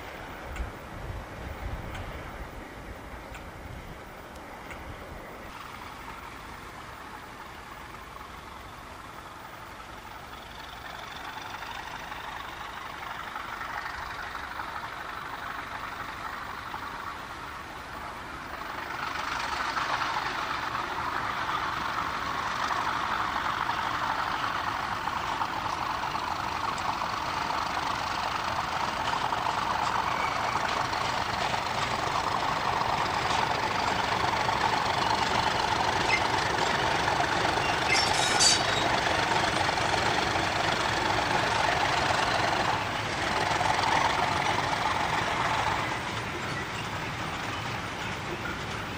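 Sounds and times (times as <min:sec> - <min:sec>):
diesel locomotive engine running: 0:00.0 - 0:48.9.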